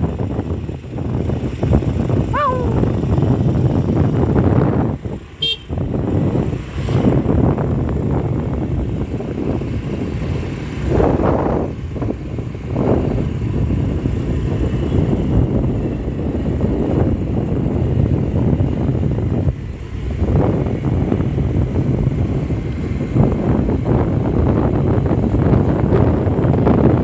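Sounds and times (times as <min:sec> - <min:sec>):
road vehicle rumble: 0:00.0 - 0:27.0.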